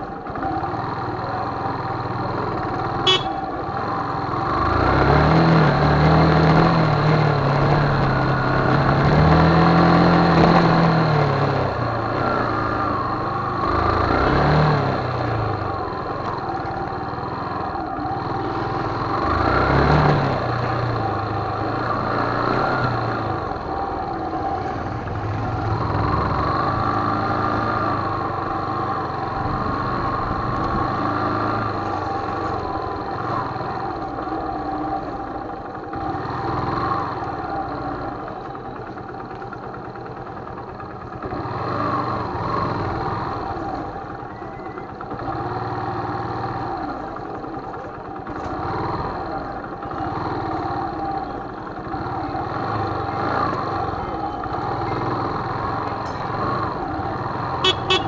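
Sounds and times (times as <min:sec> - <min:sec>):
motorcycle engine revving: 0:00.1 - 0:58.0.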